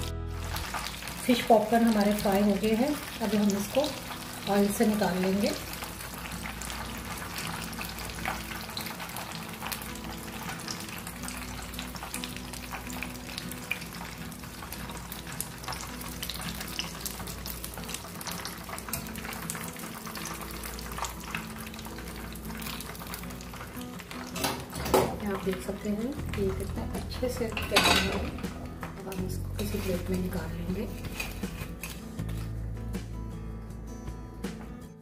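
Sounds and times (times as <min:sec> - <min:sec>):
fish deep-frying in hot oil: 0:00.0 - 0:32.5.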